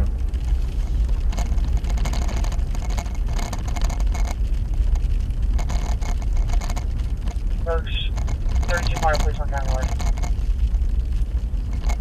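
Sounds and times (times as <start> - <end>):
vehicle driving on snowy road: 0.0 - 12.0.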